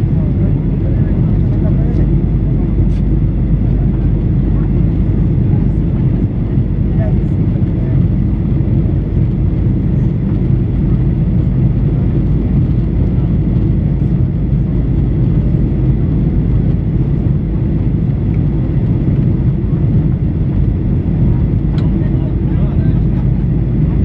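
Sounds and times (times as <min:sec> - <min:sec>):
airplane cabin engine noise: 0:00.0 - 0:24.0.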